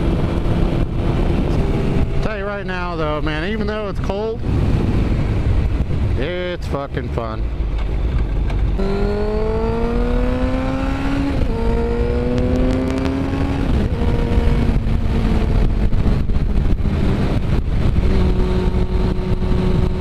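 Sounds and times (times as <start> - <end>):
motorcycle engine accelerating: 0.0 - 6.3, 7.4 - 20.0
wind rumble on microphone: 0.0 - 20.0.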